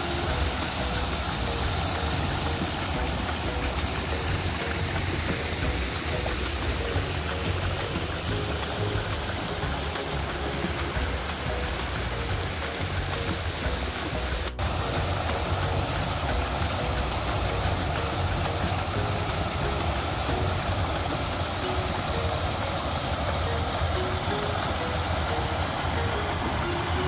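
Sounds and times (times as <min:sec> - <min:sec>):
soft background music: 0:00.0 - 0:27.0
waterfall splashing over rocks: 0:00.0 - 0:27.0.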